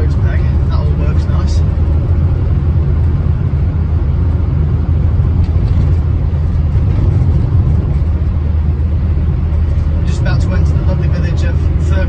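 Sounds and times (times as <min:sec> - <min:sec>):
car engine running inside cabin: 0:00.0 - 0:12.0
road noise: 0:00.0 - 0:12.0.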